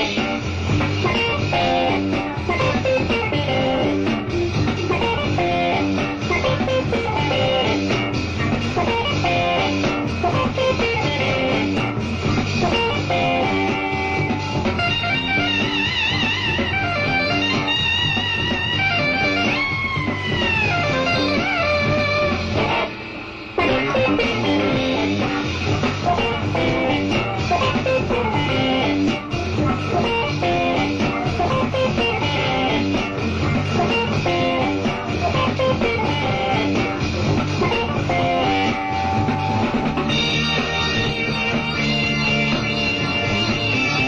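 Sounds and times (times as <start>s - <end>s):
jazz-rock band playing live: 0.0s - 22.9s, 23.6s - 44.0s.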